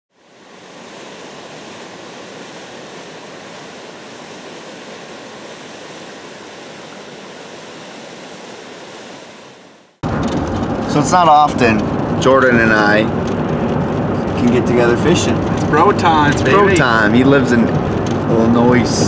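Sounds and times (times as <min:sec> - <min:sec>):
river rapids roaring: 0:00.1 - 0:13.5, 0:14.4 - 0:19.0.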